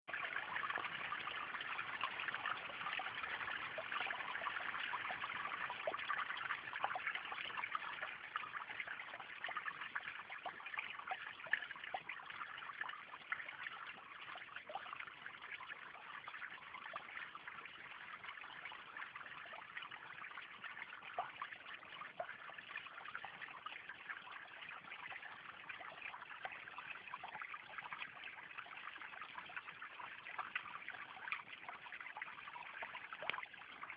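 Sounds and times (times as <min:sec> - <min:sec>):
small waterfall splashing: 0:00.1 - 0:33.9.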